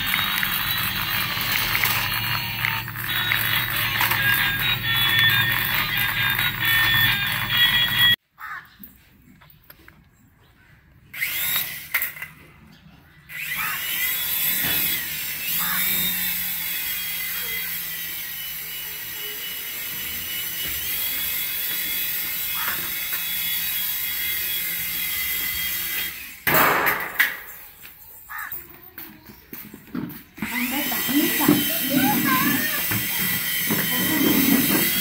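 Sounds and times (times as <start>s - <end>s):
toy helicopter motors whining: 0.0s - 8.2s, 11.1s - 12.4s, 13.3s - 26.5s, 27.5s - 28.6s, 30.4s - 35.0s.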